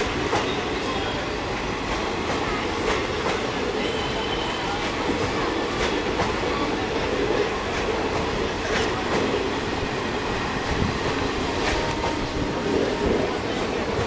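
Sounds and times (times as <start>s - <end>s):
train wheels on rail: 0.0s - 14.0s.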